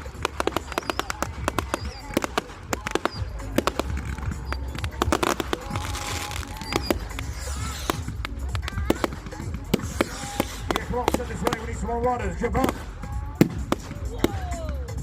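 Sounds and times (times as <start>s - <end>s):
fairground music: 0.0s - 15.0s
fireworks crackling: 0.0s - 15.0s.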